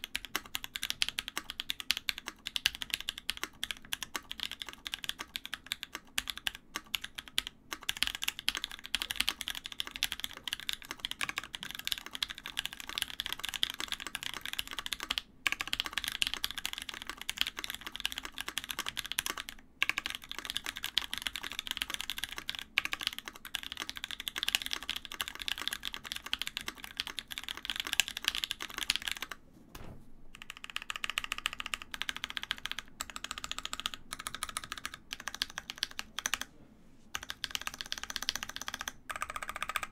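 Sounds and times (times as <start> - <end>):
mechanical keyboard typing: 0.0 - 29.4, 30.3 - 36.5, 37.1 - 39.9.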